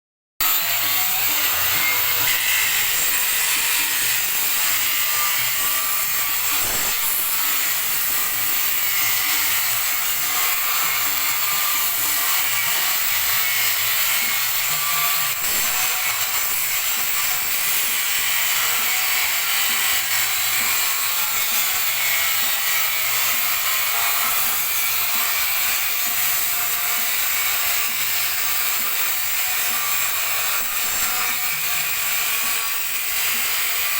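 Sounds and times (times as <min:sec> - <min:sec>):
polisher grinding steel: 0:00.4 - 0:33.9.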